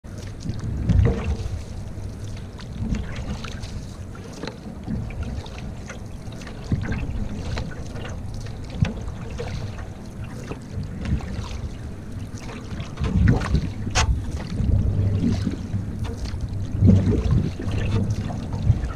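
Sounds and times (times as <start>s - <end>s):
paddle strokes in water: 0.0s - 18.9s
wind rumbling on microphone: 0.1s - 18.9s
paddle knocking against hull: 0.2s - 18.9s.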